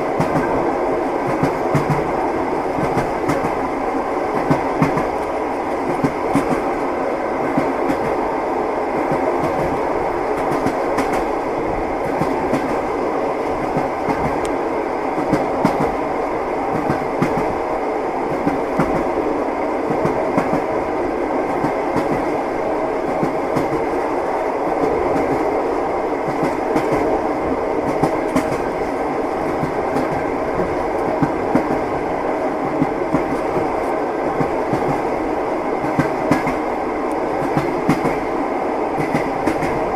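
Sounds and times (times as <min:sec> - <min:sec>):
train wheels clacking on rails: 0:00.0 - 0:16.1, 0:16.7 - 0:19.2, 0:19.8 - 0:39.9
train rumble: 0:00.0 - 0:39.9.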